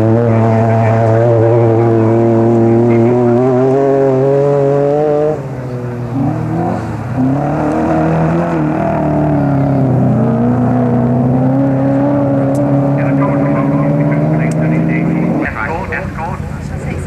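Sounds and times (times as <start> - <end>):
racing car engines revving: 0.0 - 17.0.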